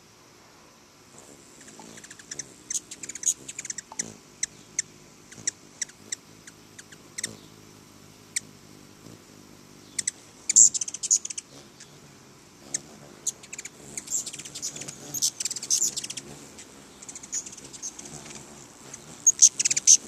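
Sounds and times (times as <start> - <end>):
hummingbird chip notes: 1.2 - 20.0.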